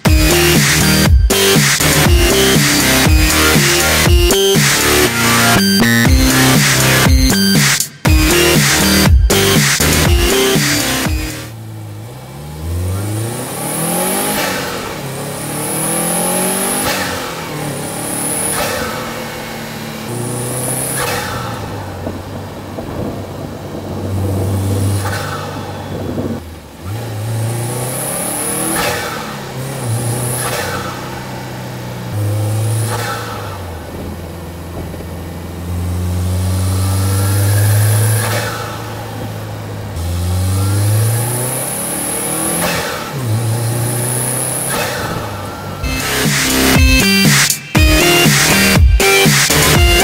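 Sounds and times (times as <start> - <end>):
turbocharged car engine accelerating: 0.0 - 50.0.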